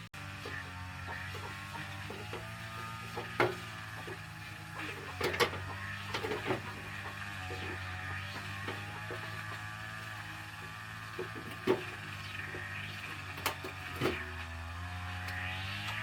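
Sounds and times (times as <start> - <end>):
low mechanical hum: 0.0 - 16.0
sharp knocks and clatters: 0.4 - 9.8, 10.8 - 14.3.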